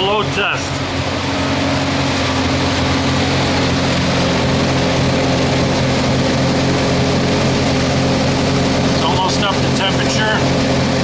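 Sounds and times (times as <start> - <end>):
generator engine idling: 0.0 - 11.0.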